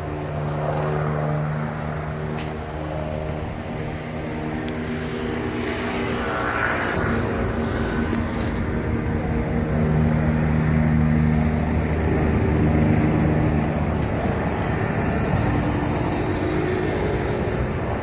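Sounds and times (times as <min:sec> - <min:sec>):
engine droning: 0:00.0 - 0:18.0
street noise: 0:00.0 - 0:18.0.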